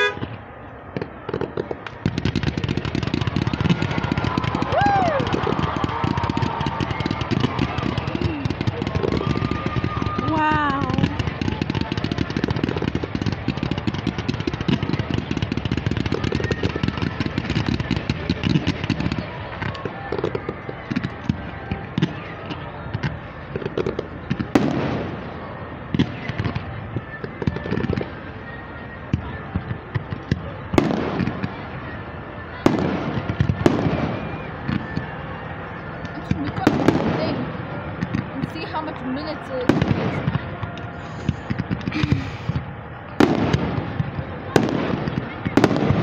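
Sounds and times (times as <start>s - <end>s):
fireworks booms with echo: 0.0s - 46.0s
fireworks cracks and bangs: 0.0s - 46.0s.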